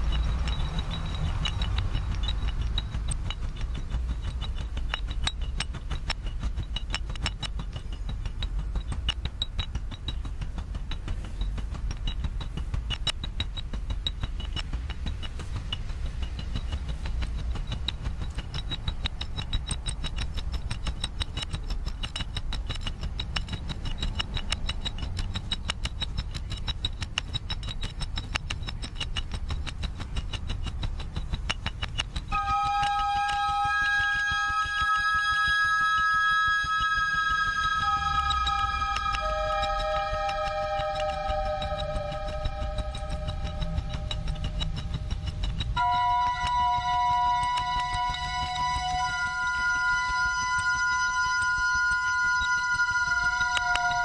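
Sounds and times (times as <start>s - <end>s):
steady low rumble: 0.0s - 32.4s, 37.4s - 54.0s
faint ringing tones: 0.0s - 54.0s
fast percussive clicks and clinks: 0.0s - 54.0s.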